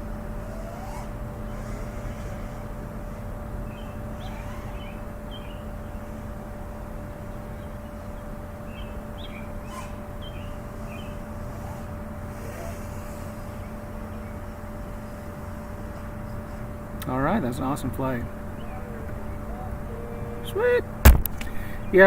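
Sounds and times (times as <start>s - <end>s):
low hum: 0.0s - 22.0s
small birds chirping: 0.0s - 22.0s.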